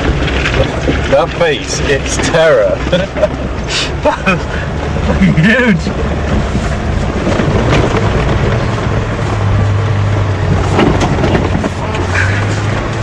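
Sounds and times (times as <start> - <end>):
knocks and rattles: 0.0 - 13.0
off-road vehicle engine droning: 0.0 - 13.0.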